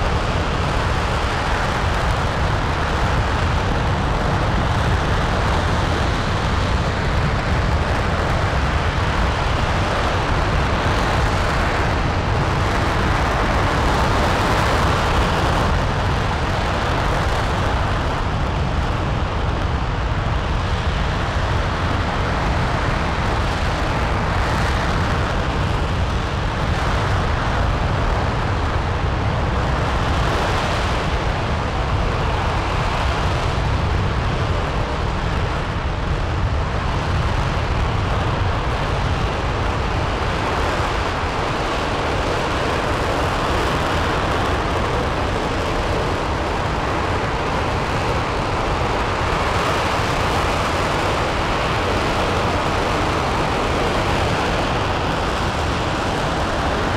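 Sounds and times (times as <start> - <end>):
rocket engine roaring: 0.0 - 56.9.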